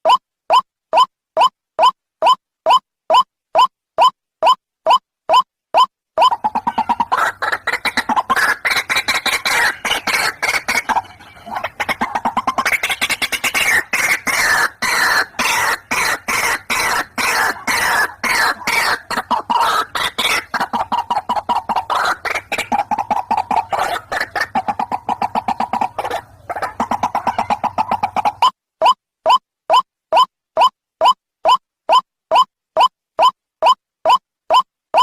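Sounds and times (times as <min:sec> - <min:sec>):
waterhen calling harsh repeated notes: 0:00.0 - 0:35.0.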